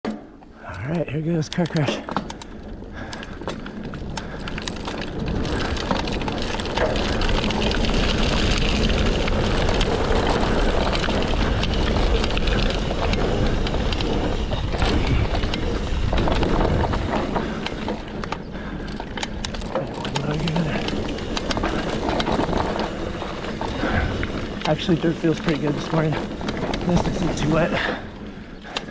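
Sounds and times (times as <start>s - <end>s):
bike clicks and rattles: 0.1s - 28.9s
tyres rolling on dirt: 0.1s - 28.9s
wind rushing over microphone: 3.7s - 28.2s.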